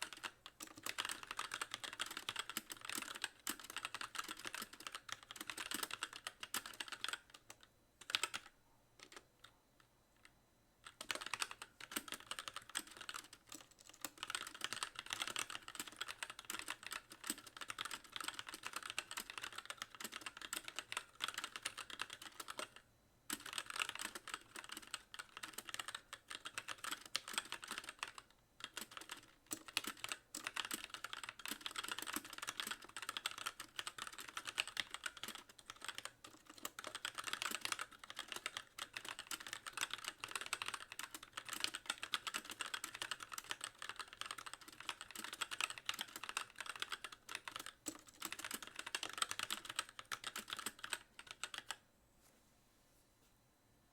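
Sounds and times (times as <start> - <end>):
mechanical keyboard typing: 0.0 - 9.5, 10.2 - 51.8.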